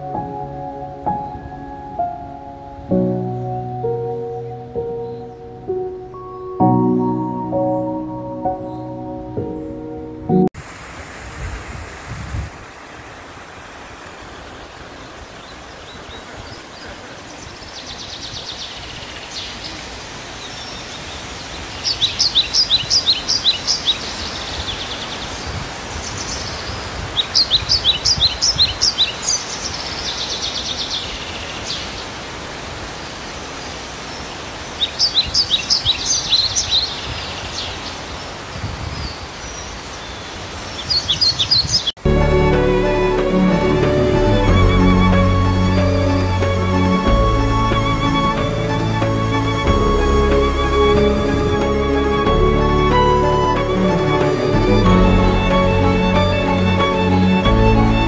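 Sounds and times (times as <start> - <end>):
songbird singing: 0.0 - 10.6, 14.4 - 58.0
outdoor noise rush: 10.6 - 58.0.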